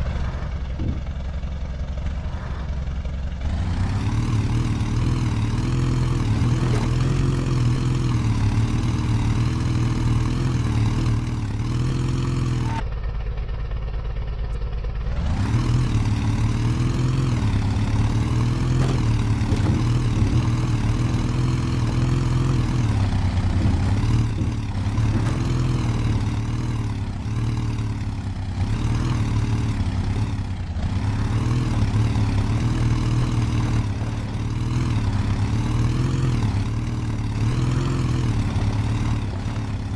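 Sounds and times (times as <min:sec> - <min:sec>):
engine revving under load: 0:00.0 - 0:12.8, 0:15.0 - 0:39.9.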